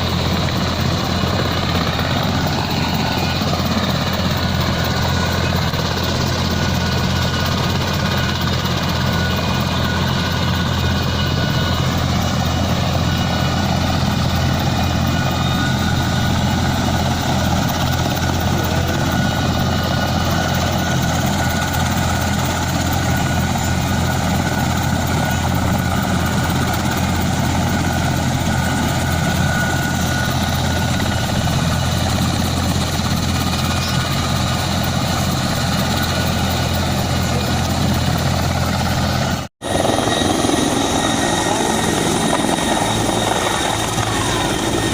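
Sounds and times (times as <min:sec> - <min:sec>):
helicopter drone: 0:00.0 - 0:44.9.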